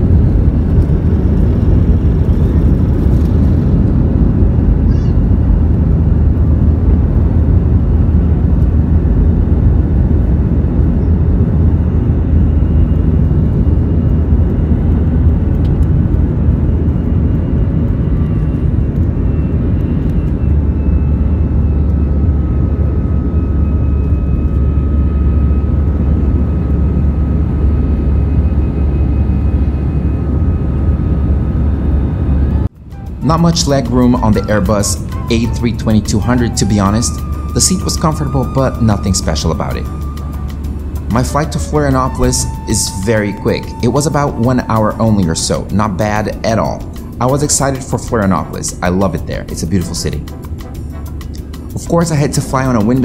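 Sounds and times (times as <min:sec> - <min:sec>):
jet engine rumble in cabin: 0:00.0 - 0:53.0.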